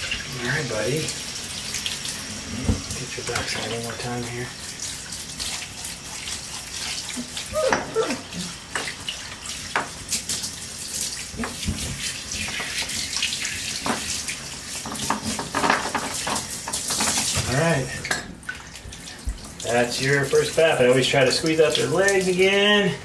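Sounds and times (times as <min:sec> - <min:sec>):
water spraying from bath sprayer: 0:00.0 - 0:18.0, 0:18.8 - 0:23.0.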